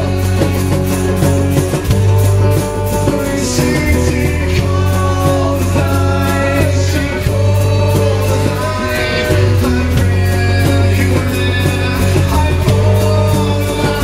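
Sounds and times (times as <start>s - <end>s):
man singing into microphone: 0.0s - 1.3s, 3.0s - 14.0s
acoustic guitars playing: 0.0s - 14.0s
steady beat: 0.0s - 14.0s.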